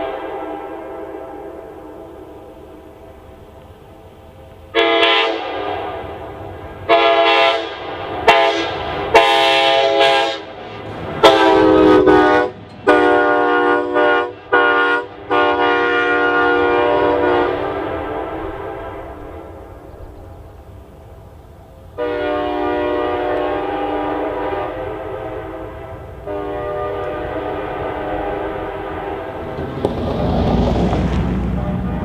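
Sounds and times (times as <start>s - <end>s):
locomotive air horn blasts: 0.0s - 2.9s, 4.7s - 19.9s, 22.0s - 29.6s, 31.5s - 32.0s.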